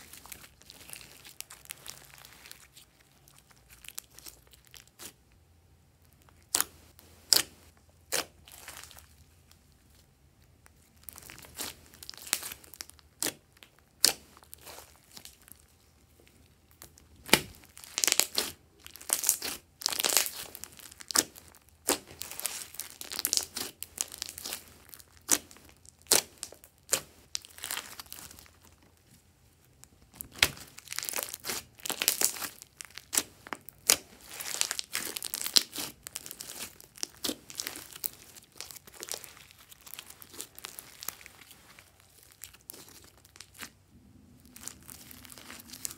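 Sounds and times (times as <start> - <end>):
slime crackling and popping: 0.0 - 5.4, 6.0 - 9.8, 10.4 - 15.8, 16.5 - 29.0, 29.8 - 43.8, 44.4 - 45.9.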